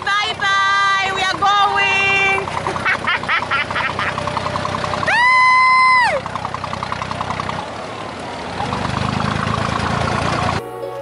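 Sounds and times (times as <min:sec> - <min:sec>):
boat diesel engine droning: 0:00.0 - 0:11.0.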